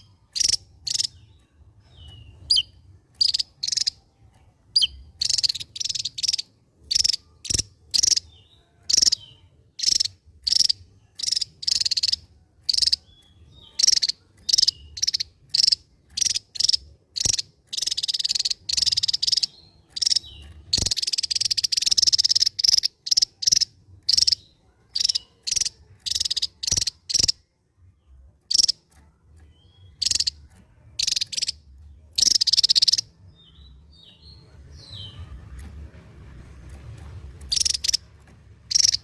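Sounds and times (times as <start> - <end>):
bird singing sharp high notes: 0.0 - 4.0, 4.7 - 27.4, 28.5 - 35.6, 37.4 - 39.0
rattling bird trills: 0.0 - 27.4, 28.4 - 33.1, 37.2 - 39.0.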